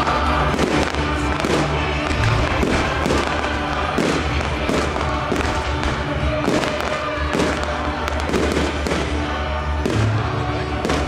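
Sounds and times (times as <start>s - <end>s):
fireworks bangs and crackles: 0.0s - 11.0s
loud music: 0.0s - 11.0s.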